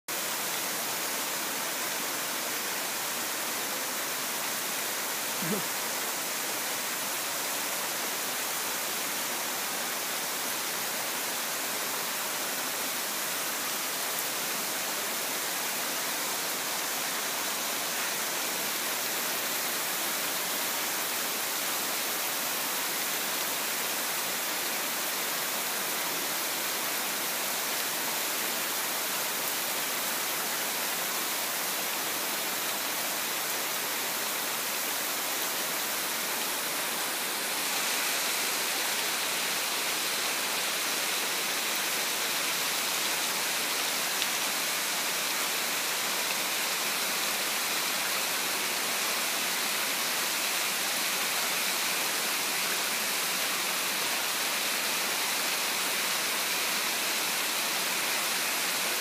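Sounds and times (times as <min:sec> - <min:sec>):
rain falling on leaves: 0:00.1 - 0:59.0.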